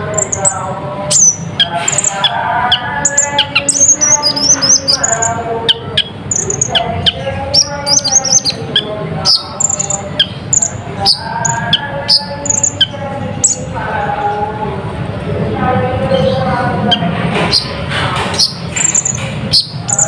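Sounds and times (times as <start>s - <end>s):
sunbird singing: 0.0s - 14.4s, 16.0s - 20.0s.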